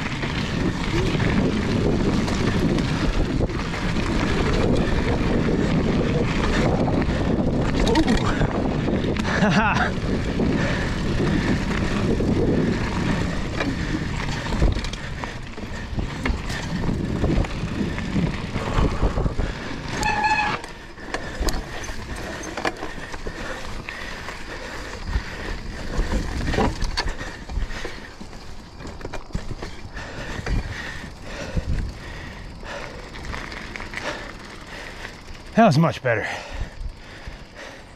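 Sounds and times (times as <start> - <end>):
bike knocking and rattling: 0.0 - 35.6
bike tyre and wind noise: 0.0 - 37.9.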